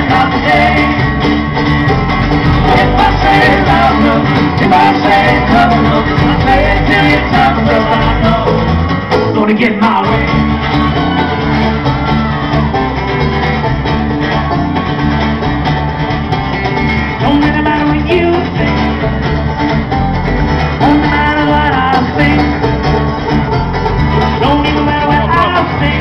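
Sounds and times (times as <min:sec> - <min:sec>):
acoustic guitar: 0:00.0 - 0:26.0
banjo: 0:00.0 - 0:26.0
cajon beat: 0:00.0 - 0:26.0
electric bass: 0:00.0 - 0:26.0.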